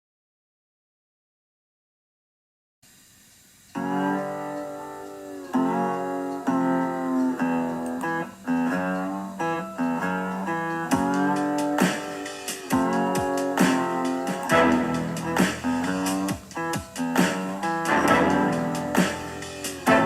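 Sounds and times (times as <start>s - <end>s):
guitar playing held chords: 3.8s - 20.0s.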